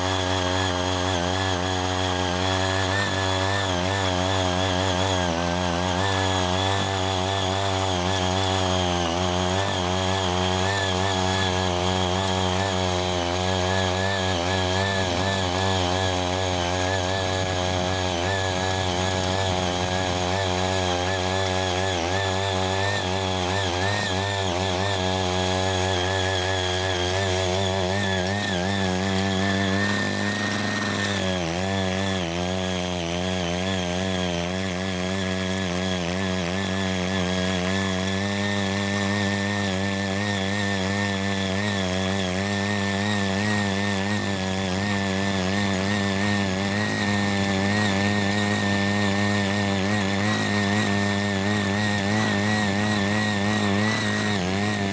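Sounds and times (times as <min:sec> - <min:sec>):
rotary tiller engine under load: 0:00.0 - 0:54.9.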